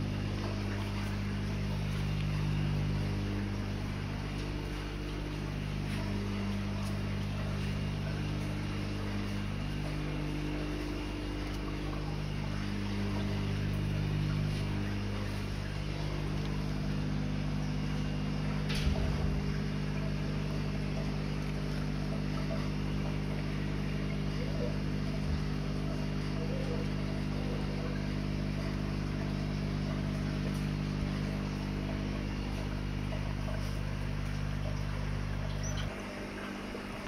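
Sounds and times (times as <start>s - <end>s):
machine hum: 0.0s - 37.0s.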